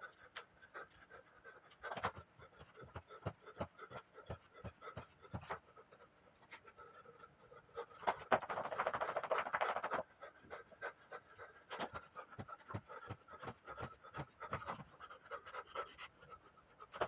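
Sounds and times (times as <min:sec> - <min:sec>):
man breathing heavily: 0:00.0 - 0:08.4, 0:09.5 - 0:17.0.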